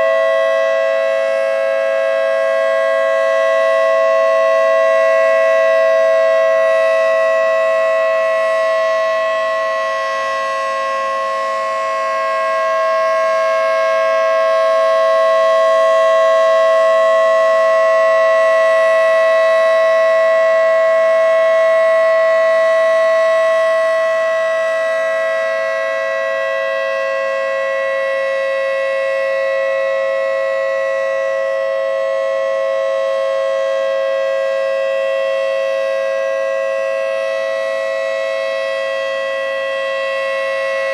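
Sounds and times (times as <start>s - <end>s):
two-tone mechanical siren: 0.0s - 40.9s.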